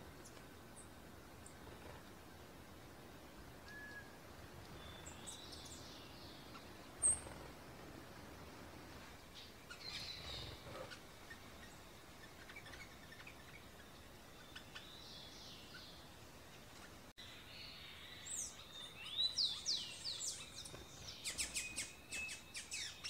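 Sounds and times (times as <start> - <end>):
faint steady hiss: 0.0 - 23.0
songbirds chirping: 0.0 - 23.0.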